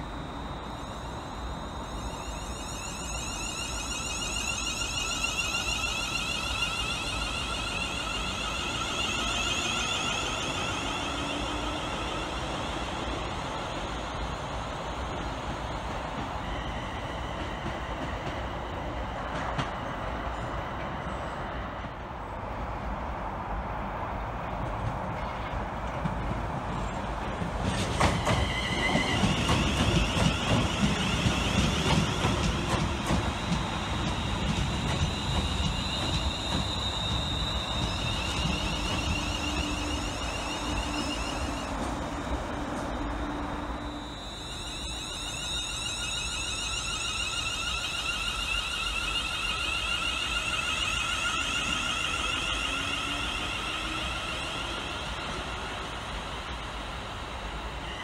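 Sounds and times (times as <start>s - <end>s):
high wavering whine: 0.0s - 19.3s, 28.2s - 58.0s
train low rumble: 0.0s - 58.0s.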